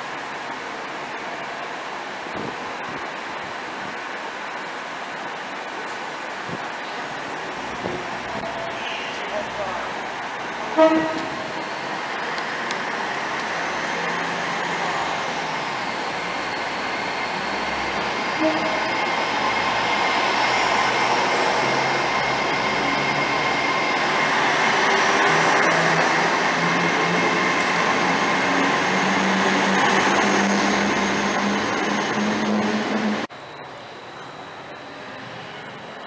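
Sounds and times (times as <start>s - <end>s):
train pulling out: 0.0s - 36.0s.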